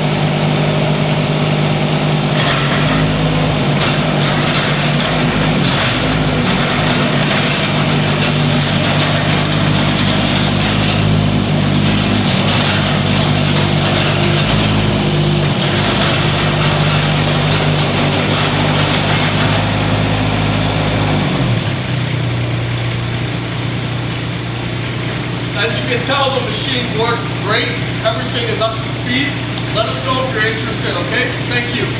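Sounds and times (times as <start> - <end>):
mini excavator diesel engine: 0.0 - 31.9.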